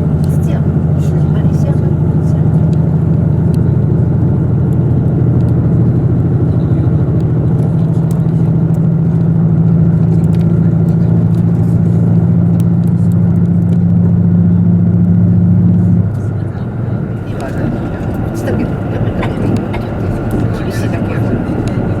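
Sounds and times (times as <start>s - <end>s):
diesel railcar engine drone: 0.0s - 22.0s
train rumble: 0.0s - 22.0s.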